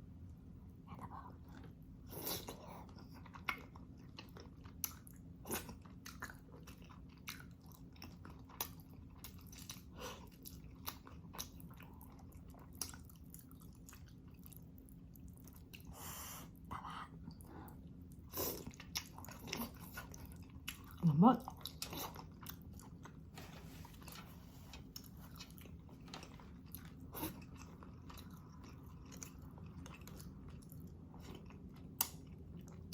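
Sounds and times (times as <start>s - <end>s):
faint low hum: 0.0s - 32.9s
person chewing: 1.5s - 16.7s, 17.3s - 32.9s.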